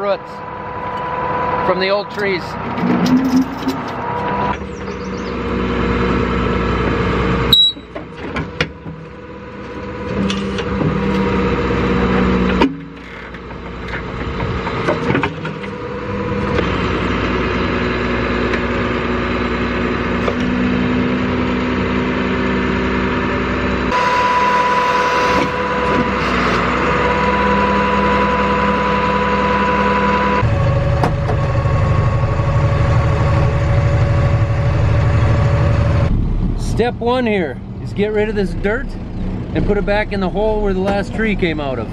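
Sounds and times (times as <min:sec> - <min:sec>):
truck engine and hydraulics: 0:00.0 - 0:41.9
truck engine from inside cab: 0:00.0 - 0:41.9.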